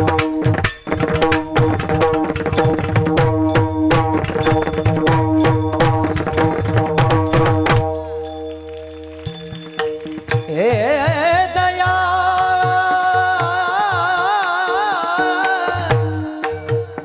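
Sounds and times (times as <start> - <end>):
hand drum strokes: 0.0 - 13.7.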